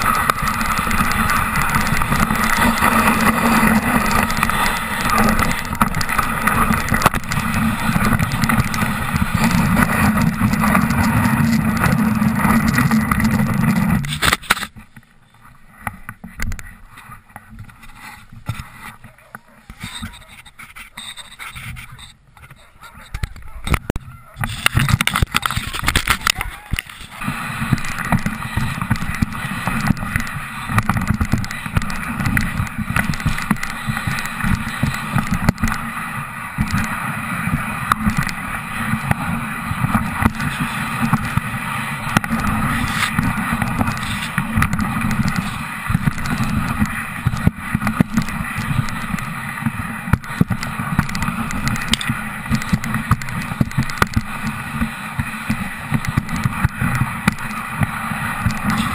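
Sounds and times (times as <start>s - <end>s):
sled runners scraping snow: 0.0s - 58.9s.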